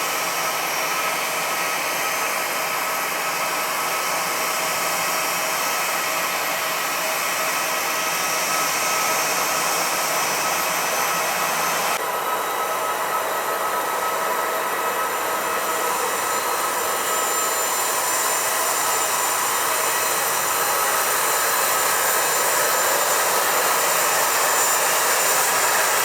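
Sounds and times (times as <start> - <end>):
jet engines running with whine: 0.0 - 26.0.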